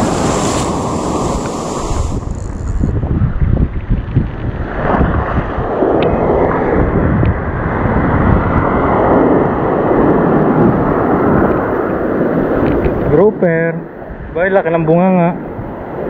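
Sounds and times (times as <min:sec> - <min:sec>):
surf rushing: 0:00.0 - 0:16.0
wind buffeting microphone: 0:00.0 - 0:16.0.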